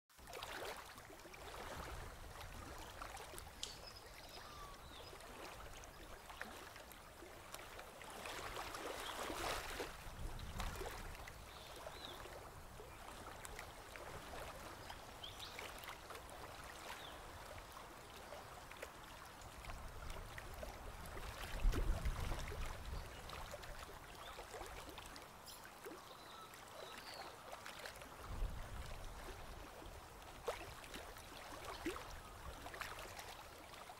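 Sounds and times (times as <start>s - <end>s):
river water lapping: 0.1s - 33.9s.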